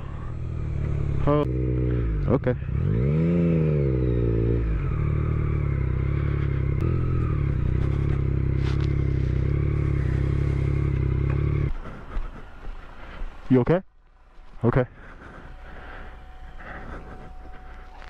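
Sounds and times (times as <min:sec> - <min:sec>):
motorcycle engine running: 0:00.0 - 0:12.9, 0:14.1 - 0:18.0.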